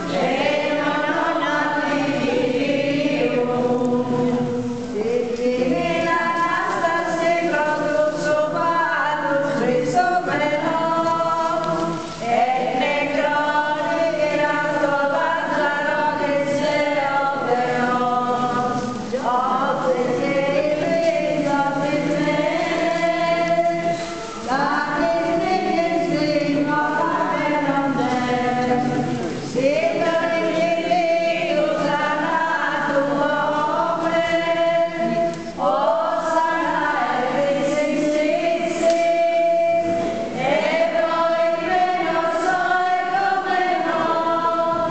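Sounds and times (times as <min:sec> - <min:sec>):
choir singing a hymn: 0:00.0 - 0:44.9.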